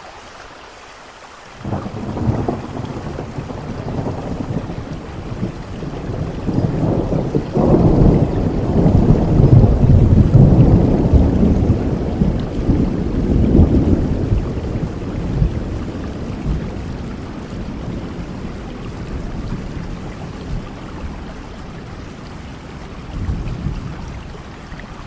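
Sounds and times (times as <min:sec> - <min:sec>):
steady rain: 0:00.0 - 0:25.0
thunder rumbling: 0:01.6 - 0:24.5.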